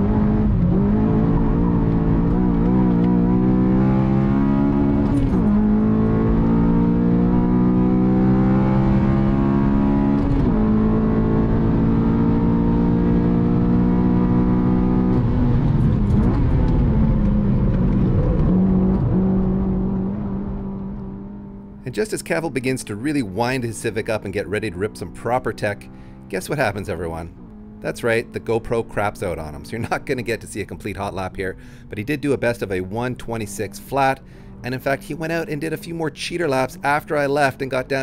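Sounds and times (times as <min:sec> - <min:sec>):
car engine pulling hard: 0:00.0 - 0:38.0.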